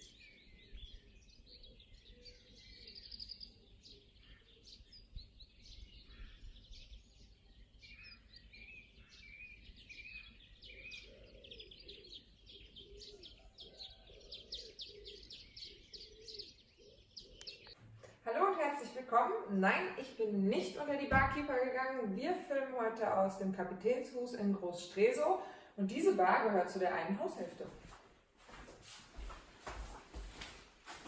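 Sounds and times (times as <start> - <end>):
birds chirping and trilling: 0.0 - 27.7.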